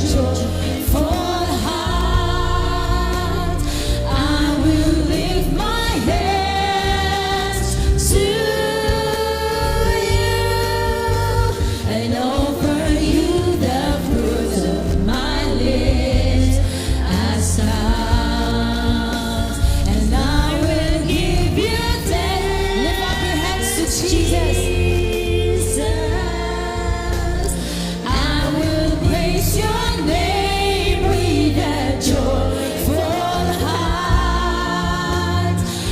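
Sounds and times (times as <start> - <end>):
group singing praise song: 0.0 - 35.9
instrumental backing: 0.0 - 35.9.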